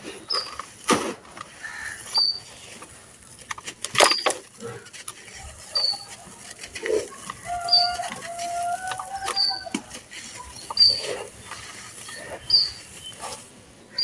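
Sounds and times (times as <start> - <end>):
charcoal crumbling and crunching: 0.4 - 13.6.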